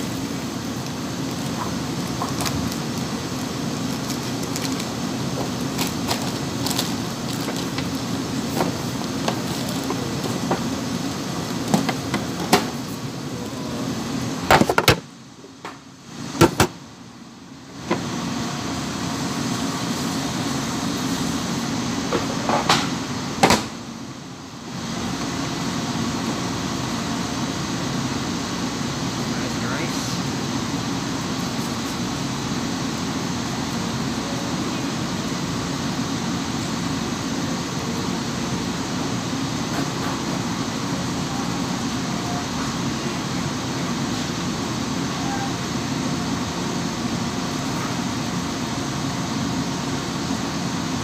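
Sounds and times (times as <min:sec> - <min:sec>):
kitchen machine hum: 0:00.0 - 0:51.0.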